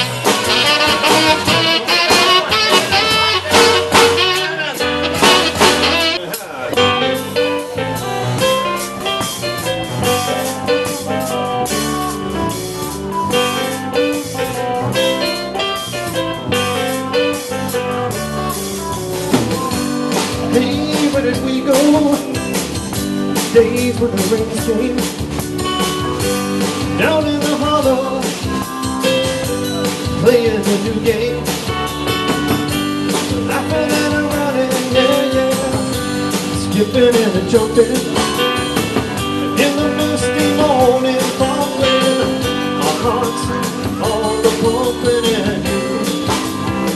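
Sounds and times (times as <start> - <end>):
drum kit struck with sticks: 0.0 - 46.9
electric guitar: 0.0 - 46.9
keyboard: 0.0 - 46.9.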